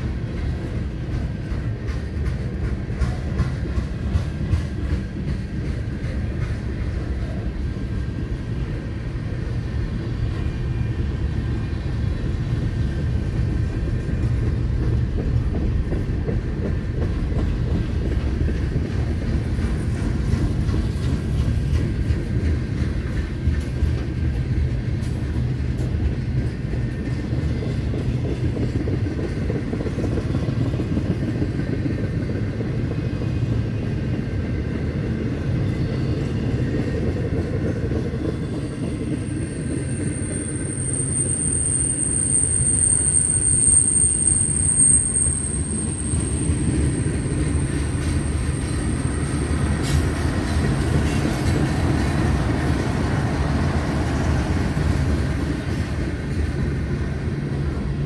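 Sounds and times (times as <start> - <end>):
freight train rolling past: 0.0 - 58.0
steel wheels rumbling on rail: 0.0 - 58.0.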